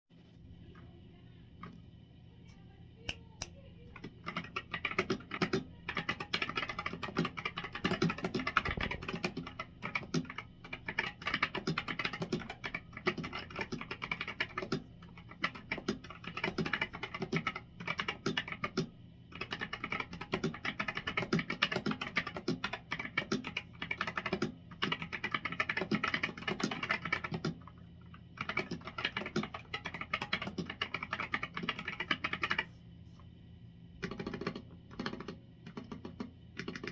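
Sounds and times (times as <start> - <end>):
mechanical keyboard typing: 3.9 - 32.7, 34.0 - 36.9.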